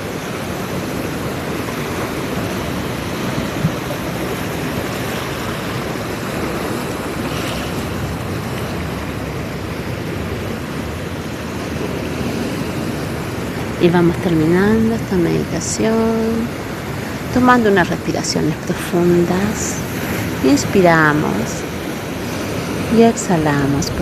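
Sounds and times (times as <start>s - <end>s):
ocean surf on beach: 0.0s - 24.0s.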